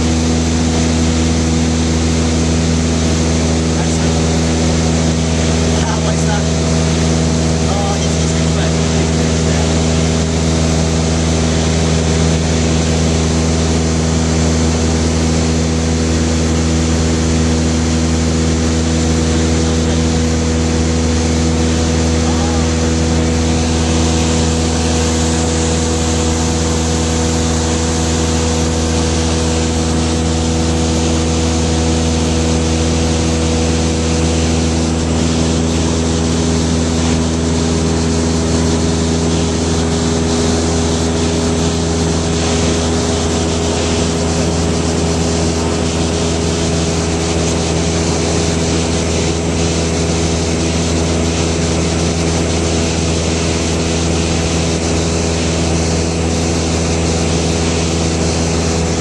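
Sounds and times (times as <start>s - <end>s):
aircraft engine droning: 0.0s - 59.0s
rush of air noise: 0.0s - 59.0s.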